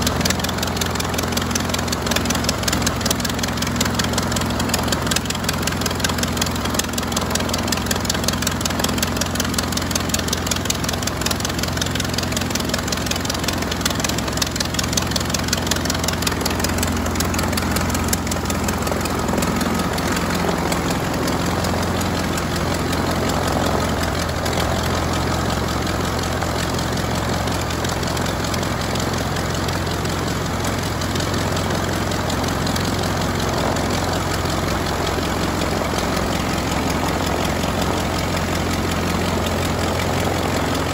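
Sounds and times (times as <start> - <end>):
propeller plane engine running: 0.0 - 40.9.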